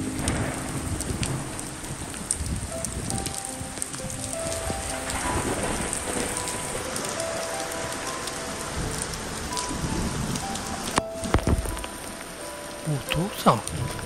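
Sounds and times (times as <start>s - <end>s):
heavy rain on pavement: 0.0s - 14.0s
thunder rumbling: 0.0s - 14.0s.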